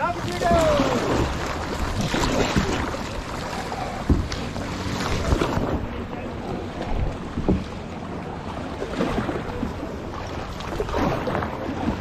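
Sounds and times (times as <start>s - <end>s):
paddle strokes splashing in water: 0.0s - 12.0s.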